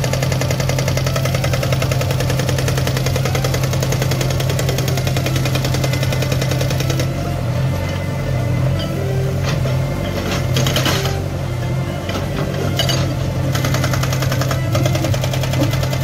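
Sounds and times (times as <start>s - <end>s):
hydraulic rock breaker hammering: 0.0s - 7.2s, 9.3s - 11.3s, 12.0s - 16.0s
diesel engine running: 0.0s - 16.0s.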